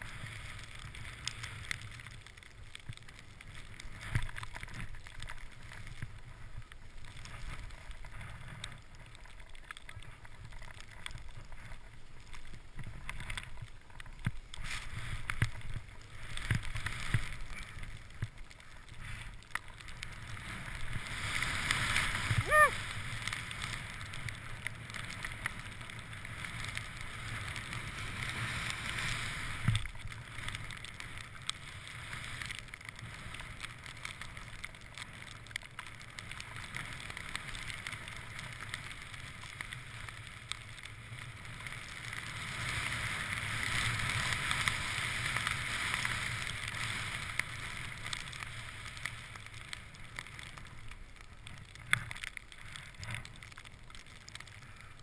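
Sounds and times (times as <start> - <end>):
skis swishing through powder snow: 0.0 - 2.2, 3.0 - 9.2, 11.4 - 18.3, 18.9 - 35.2, 36.1 - 50.8.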